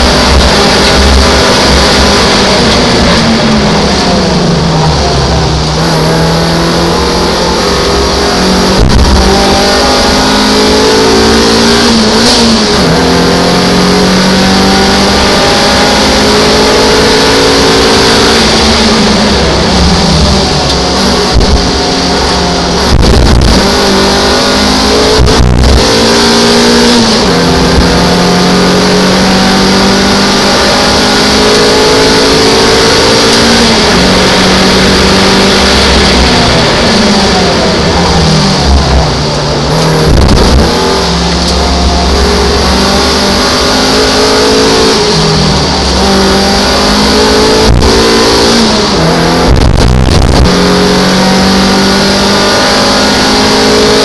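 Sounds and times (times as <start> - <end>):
race car engine revving: 0.0 - 54.0
wind and road noise: 0.0 - 54.0.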